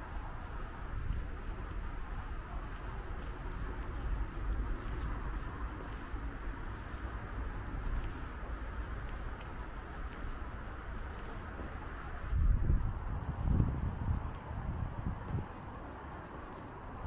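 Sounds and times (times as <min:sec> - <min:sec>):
distant road traffic: 0:00.0 - 0:17.0
wind: 0:00.0 - 0:17.0.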